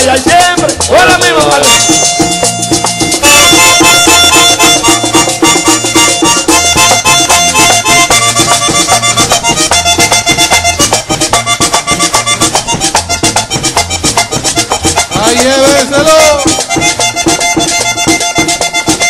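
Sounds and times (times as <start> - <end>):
button accordion melody: 0.0 - 19.0
held bass notes: 0.0 - 19.0
quick percussion beat: 0.0 - 19.0.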